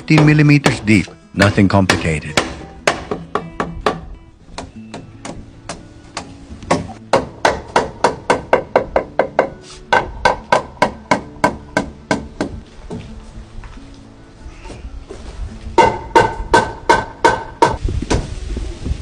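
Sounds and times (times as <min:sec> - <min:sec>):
hammer striking wood: 0:00.1 - 0:13.0, 0:15.8 - 0:18.2.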